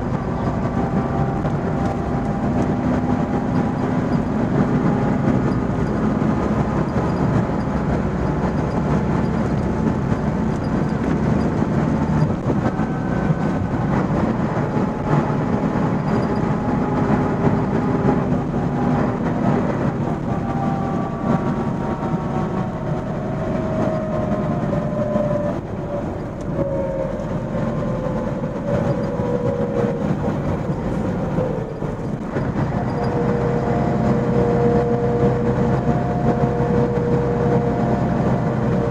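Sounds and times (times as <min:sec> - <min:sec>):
coach engine and road rumble: 0:00.0 - 0:38.9
whine: 0:00.0 - 0:38.9.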